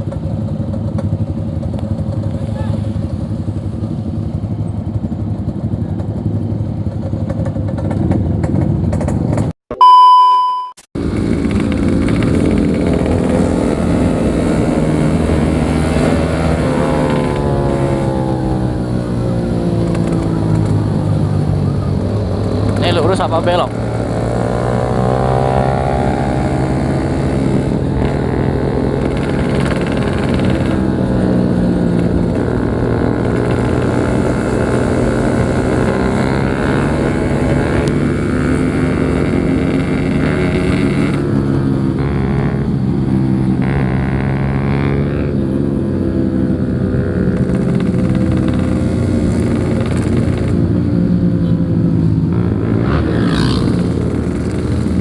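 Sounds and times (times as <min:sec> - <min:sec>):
two-stroke motorcycle engine running: 0:00.0 - 0:09.5, 0:11.0 - 0:55.0.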